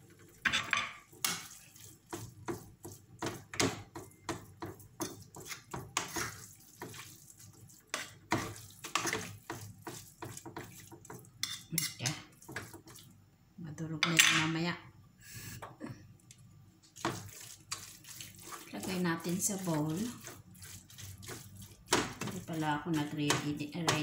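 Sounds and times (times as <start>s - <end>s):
spatula scraping frying pan: 0.0s - 13.0s, 17.0s - 24.0s.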